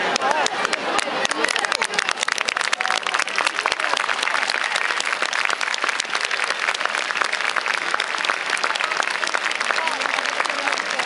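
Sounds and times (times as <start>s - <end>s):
crowd clapping: 0.0s - 11.0s
scattered voices: 0.0s - 11.0s.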